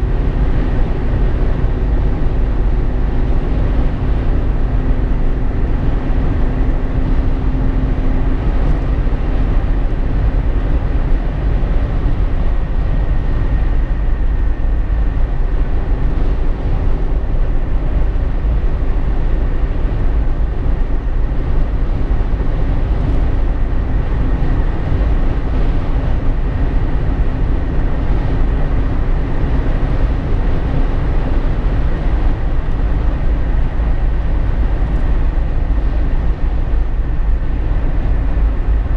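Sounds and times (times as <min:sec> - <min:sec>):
low rumble of tyres and engine: 0:00.0 - 0:38.9.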